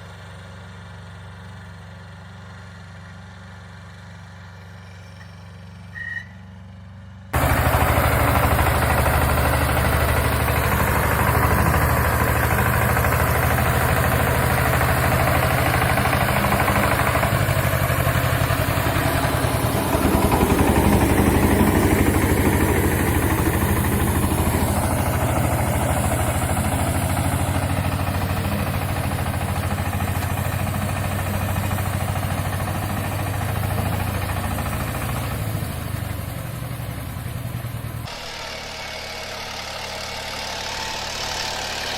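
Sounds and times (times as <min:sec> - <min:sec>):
tractor engine droning: 0:00.0 - 0:41.9.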